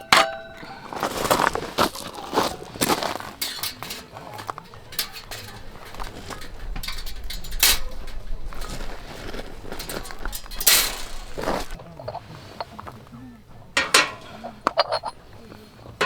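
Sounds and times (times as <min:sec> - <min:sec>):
camping gear clinking and rustling: 0:00.0 - 0:16.0.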